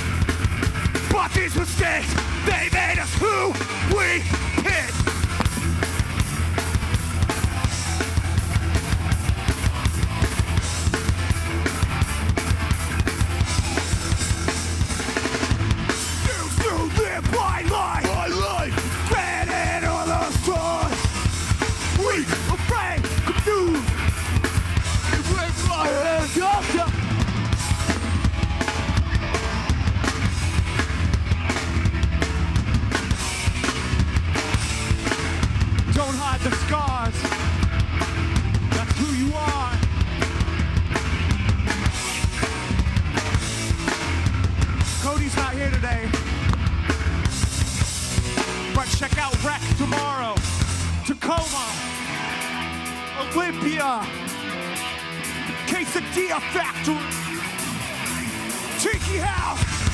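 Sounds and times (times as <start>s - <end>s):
distorted electric guitar: 0.0s - 59.9s
fast drum-kit beats: 0.0s - 59.9s
punk band playing: 0.0s - 59.9s.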